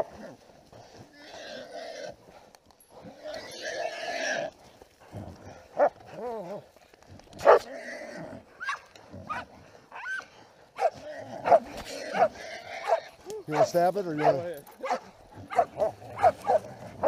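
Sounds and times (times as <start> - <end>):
dogs barking and yelping: 0.0 - 6.7, 7.3 - 7.8, 8.4 - 17.0.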